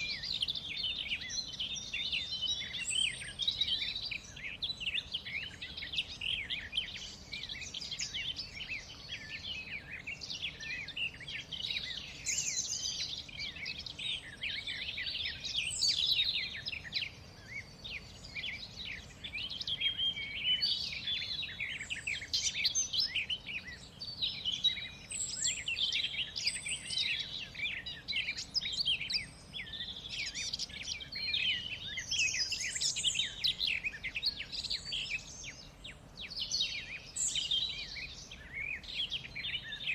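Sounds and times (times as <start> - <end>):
faint outdoor hiss: 0.0 - 39.9
songbirds chirping and singing: 0.0 - 39.9.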